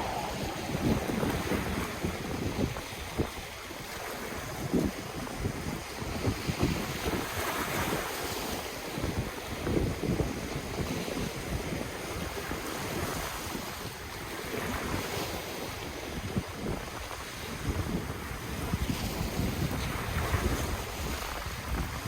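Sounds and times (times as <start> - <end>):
ocean waves washing on shore: 0.0 - 22.0
wind buffeting microphone: 0.0 - 22.0.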